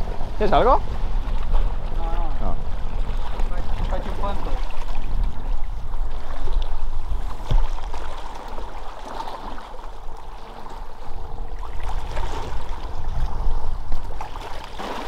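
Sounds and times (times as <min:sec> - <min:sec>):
water lapping against rocks: 0:00.0 - 0:15.0
wind rumble on microphone: 0:00.0 - 0:15.0.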